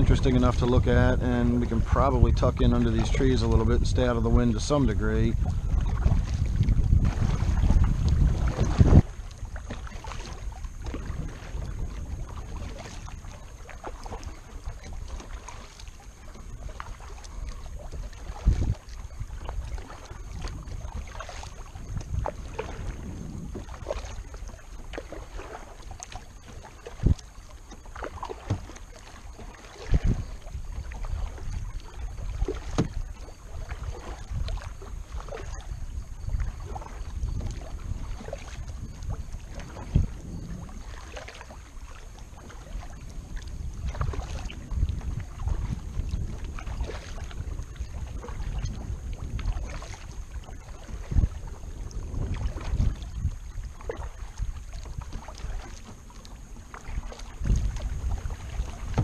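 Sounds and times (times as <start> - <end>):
paddle splashing in water: 0.0 - 59.0
wind rumble on microphone: 0.0 - 59.0.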